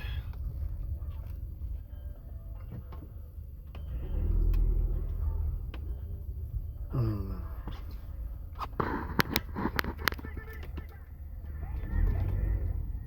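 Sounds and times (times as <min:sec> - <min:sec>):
car rumble from inside cabin: 0:00.0 - 0:13.0.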